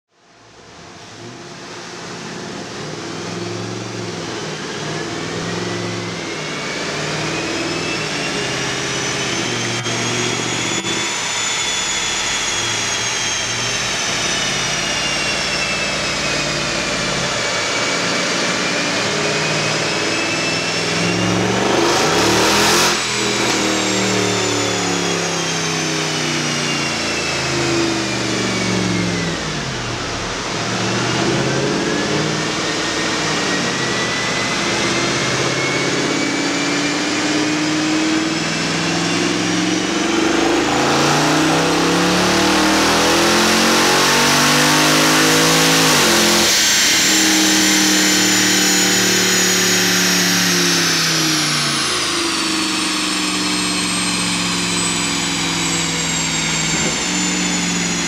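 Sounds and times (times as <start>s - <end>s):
car engine revving on dynamometer: 0.2s - 58.0s
high whine: 0.3s - 58.0s.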